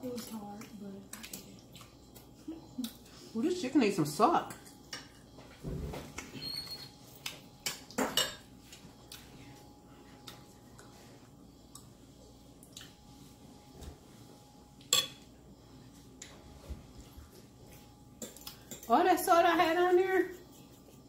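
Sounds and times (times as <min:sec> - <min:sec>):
quiet eating sounds: 0:00.0 - 0:21.0.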